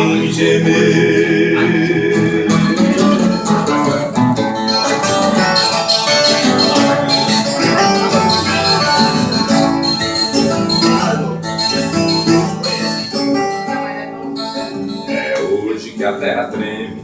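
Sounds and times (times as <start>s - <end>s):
guitar backing: 0.0s - 17.0s
plucked ten-string guitar: 0.0s - 17.0s.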